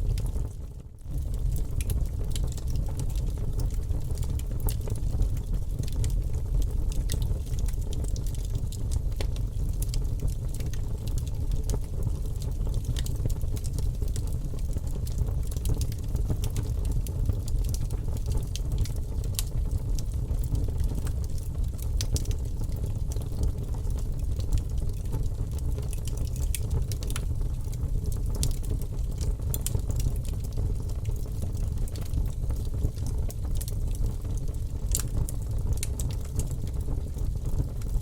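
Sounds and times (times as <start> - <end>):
campfire crackling and popping: 0.0 - 38.0
low rumble of flames: 0.0 - 38.0.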